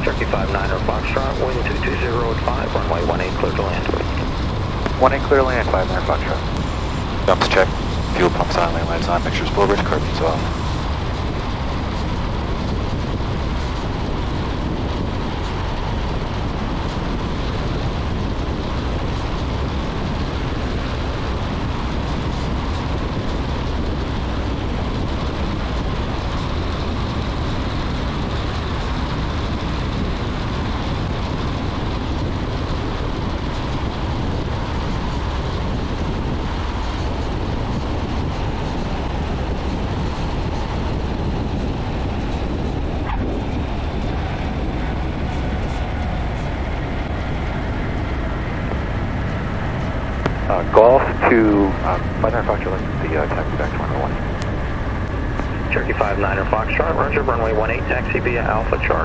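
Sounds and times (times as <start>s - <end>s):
air noise: 0.0s - 59.0s
aircraft engine and propeller drone: 0.0s - 59.0s.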